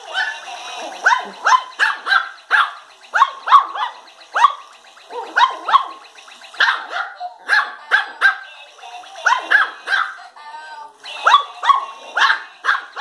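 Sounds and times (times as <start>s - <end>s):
puppies yapping: 0.1s - 6.0s, 6.6s - 8.5s, 9.2s - 10.2s, 11.2s - 13.0s.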